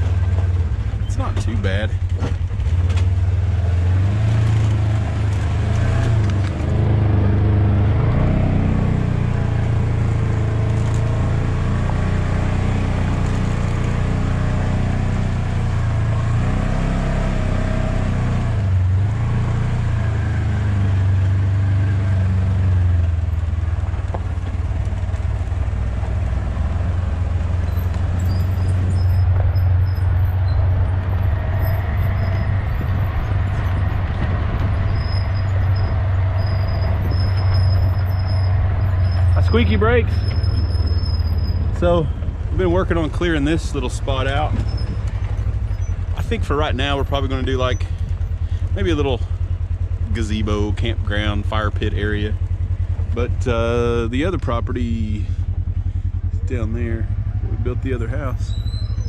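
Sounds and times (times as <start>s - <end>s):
brakes squealing: 0.0s - 59.0s
utility vehicle engine running: 0.0s - 59.0s.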